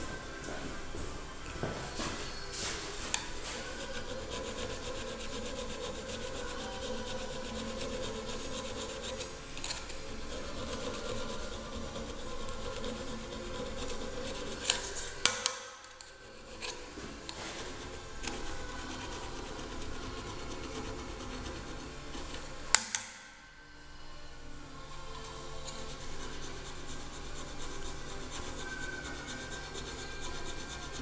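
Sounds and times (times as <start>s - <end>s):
hand file rasping on metal: 2.9s - 23.0s, 25.3s - 31.0s.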